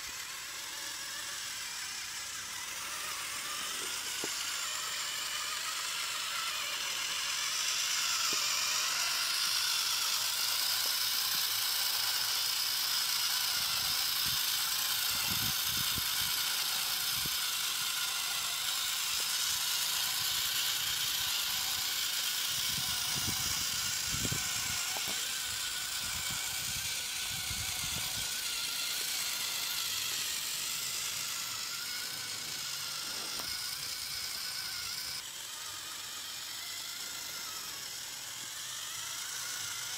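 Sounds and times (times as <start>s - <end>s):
model tractor motor whirring: 0.0s - 39.9s.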